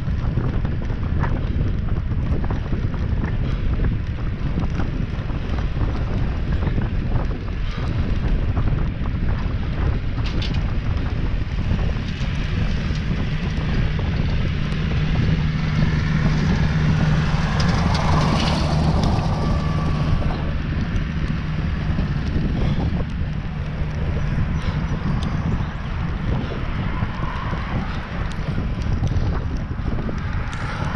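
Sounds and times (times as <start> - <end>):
bicycle tyre noise: 0.0 - 30.9
wind buffeting microphone: 0.0 - 30.9.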